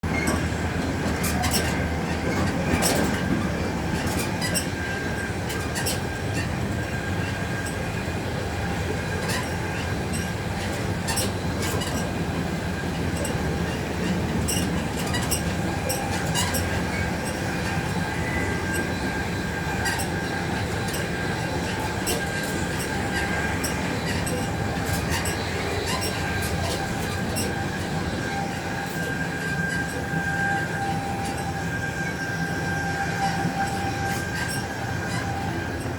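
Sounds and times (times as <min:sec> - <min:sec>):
thin steady whine: 0:00.0 - 0:35.9
train rumble: 0:00.0 - 0:35.9
wheels clicking on track: 0:00.0 - 0:35.9.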